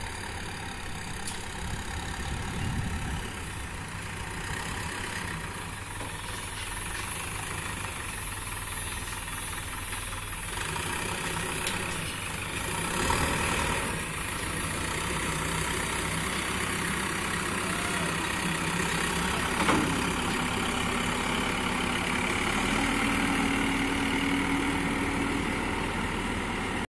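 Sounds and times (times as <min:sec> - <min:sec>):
diesel engine rumbling: 0:00.0 - 0:26.9.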